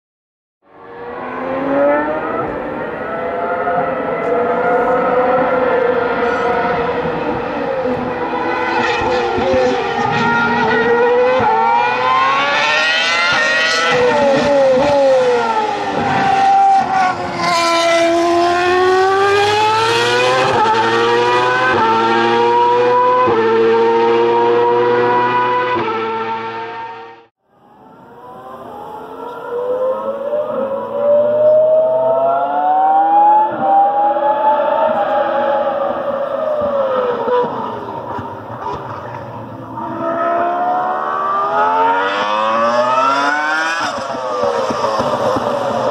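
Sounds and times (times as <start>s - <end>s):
racing car engine at high revs: 0.7s - 27.3s, 27.9s - 45.9s.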